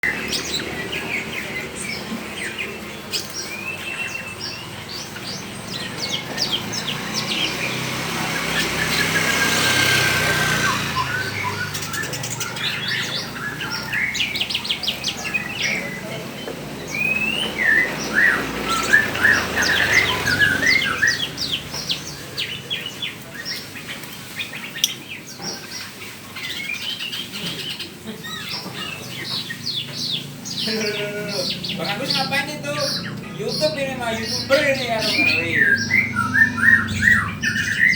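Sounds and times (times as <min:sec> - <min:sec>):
songbirds chirping and whistling: 0:00.0 - 0:37.9.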